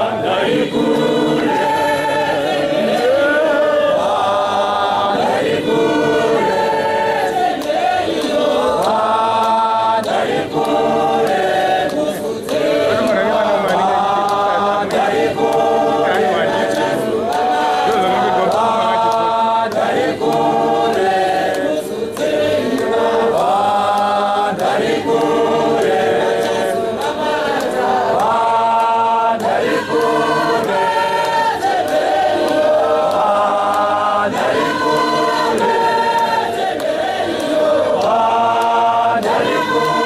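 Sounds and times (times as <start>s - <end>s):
choir singing a hymn: 0.0s - 40.0s.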